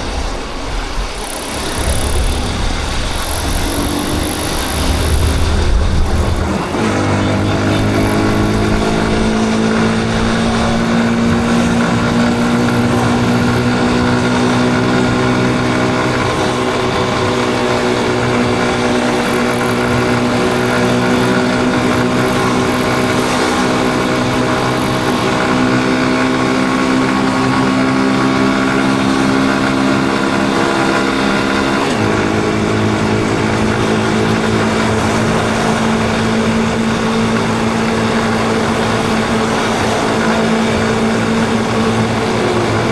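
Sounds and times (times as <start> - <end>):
motorcycle engine running: 0.7 - 42.9.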